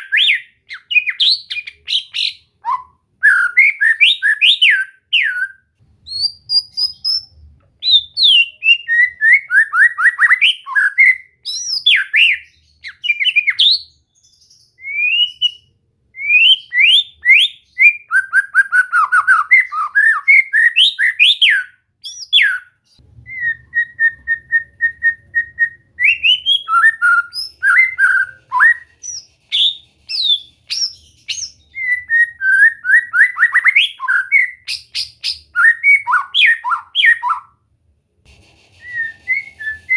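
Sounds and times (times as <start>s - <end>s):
bird singing whistled phrases: 0.0s - 37.5s, 38.8s - 39.9s.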